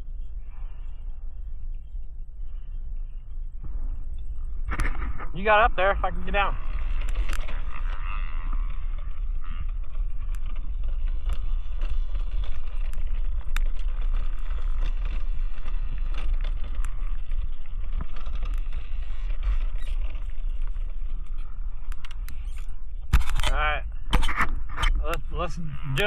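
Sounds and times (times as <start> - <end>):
clicks and rattles from bike: 0.0 - 26.0
wind buffeting microphone: 0.0 - 26.0.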